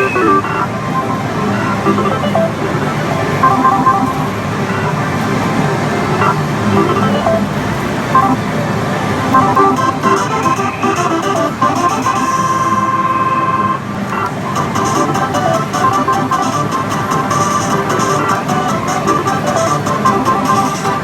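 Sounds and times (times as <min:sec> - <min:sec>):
short electronic beeps: 0:00.0 - 0:05.0, 0:06.2 - 0:07.5, 0:08.2 - 0:08.4, 0:09.4 - 0:21.0
electronic jingle tones: 0:00.0 - 0:05.2, 0:06.0 - 0:08.5, 0:09.3 - 0:21.0.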